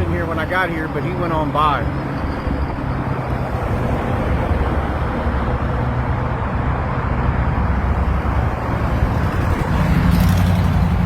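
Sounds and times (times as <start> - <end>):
traffic noise: 0.0 - 11.0
vehicle engine hum: 0.0 - 11.0.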